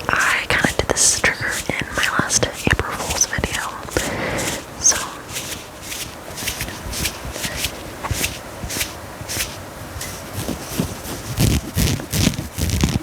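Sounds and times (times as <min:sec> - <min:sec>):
scratching on fabric: 0:00.0 - 0:13.0.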